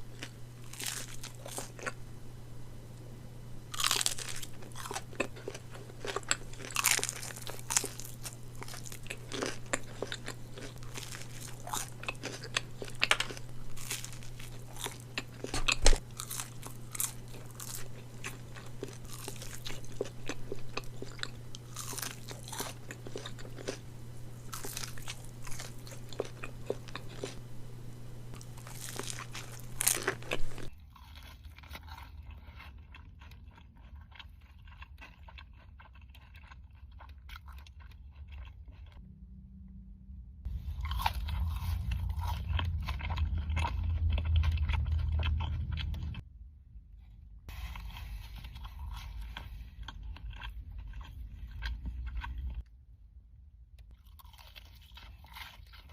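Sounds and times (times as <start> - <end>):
crunching bites and chewing: 0.0 - 2.1, 3.6 - 39.0, 40.4 - 46.2, 47.5 - 52.7, 53.9 - 55.9
low steady hum: 0.0 - 55.9.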